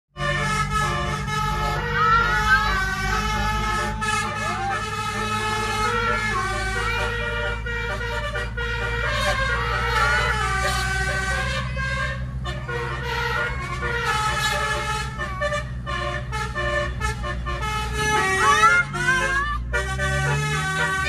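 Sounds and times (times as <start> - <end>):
multi-tone air horn melody: 0.2 - 21.0.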